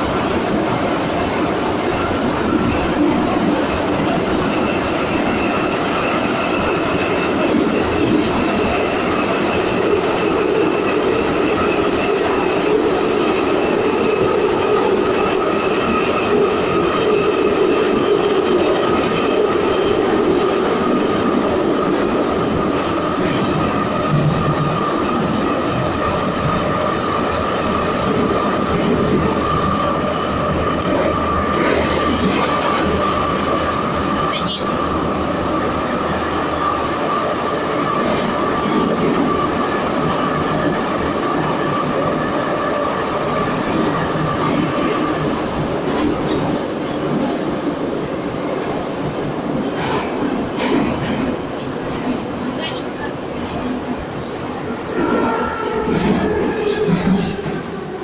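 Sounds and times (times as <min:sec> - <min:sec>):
steady train whine: 0:00.0 - 0:58.0
train wheels rumbling on rail: 0:00.0 - 0:58.0.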